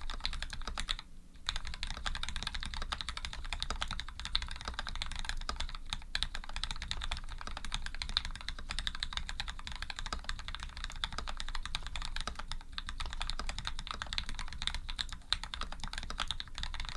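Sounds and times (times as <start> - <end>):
fast mechanical keyboard typing: 0.0 - 16.9.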